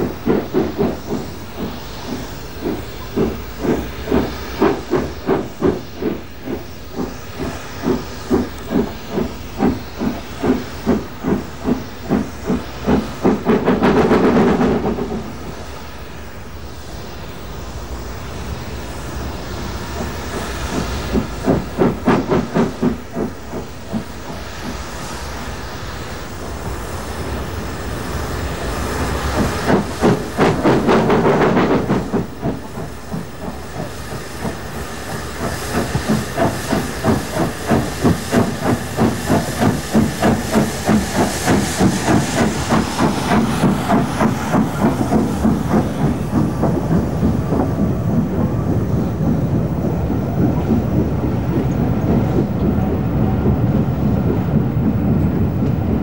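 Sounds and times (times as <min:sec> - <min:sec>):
rush of steam: 0:00.0 - 0:56.0
steam locomotive exhaust beats: 0:00.0 - 0:56.0
train rolling: 0:00.0 - 0:56.0.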